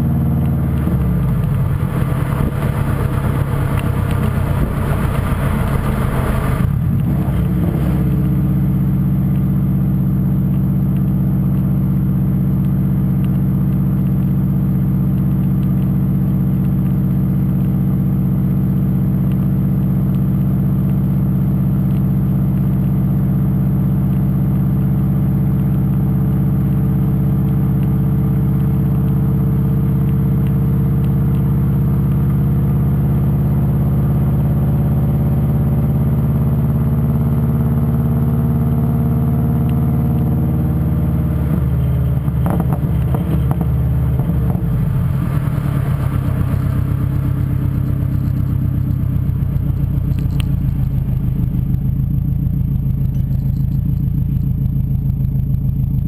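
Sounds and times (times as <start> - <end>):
car exhaust while driving: 0.0 - 56.0.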